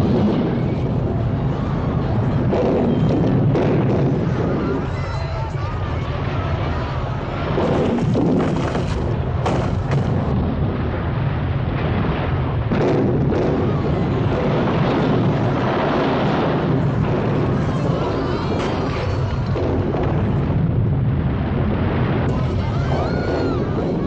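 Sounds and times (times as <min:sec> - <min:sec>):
deep earthquake rumble: 0:00.0 - 0:24.0.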